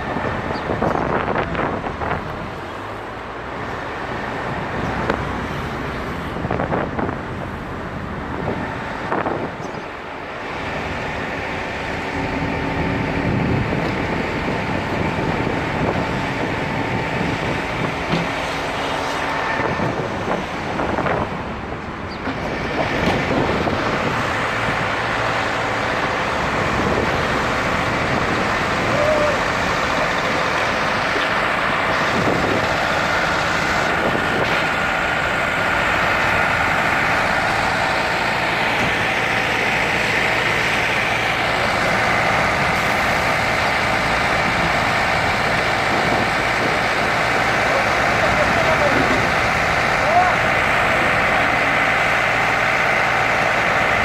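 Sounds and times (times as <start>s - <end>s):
heavy vehicle engine running: 0.0s - 54.0s
street traffic: 0.0s - 54.0s.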